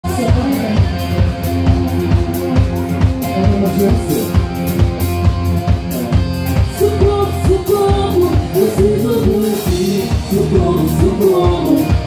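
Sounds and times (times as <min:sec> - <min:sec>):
band playing upbeat instrumental: 0:00.0 - 0:12.0
drum kit beat: 0:00.0 - 0:12.0.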